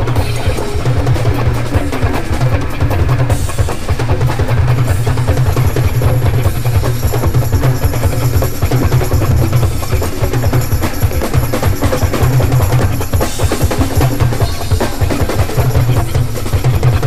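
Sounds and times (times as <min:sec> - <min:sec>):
congas: 0:00.0 - 0:17.0
drum kit: 0:00.0 - 0:17.0
live rock band music: 0:00.0 - 0:17.0.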